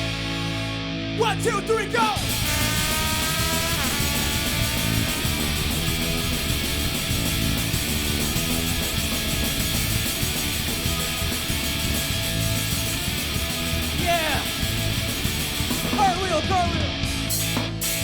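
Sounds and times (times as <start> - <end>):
electric guitar strumming: 0.0 - 18.0
live rock band playing: 0.0 - 18.0.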